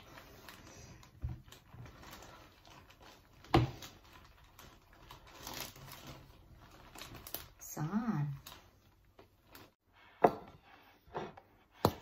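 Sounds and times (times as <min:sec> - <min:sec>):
wrappers rustling and crinkling: 0:00.0 - 0:09.8.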